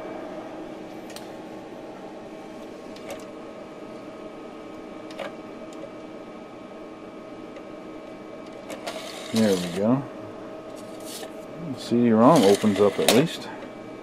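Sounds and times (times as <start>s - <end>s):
computer fans humming: 0.0s - 14.0s
faint electronic whine: 0.0s - 14.0s.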